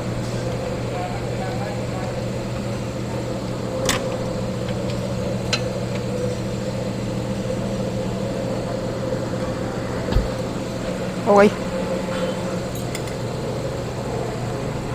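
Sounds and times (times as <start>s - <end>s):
steady mechanical hum: 0.0s - 14.9s.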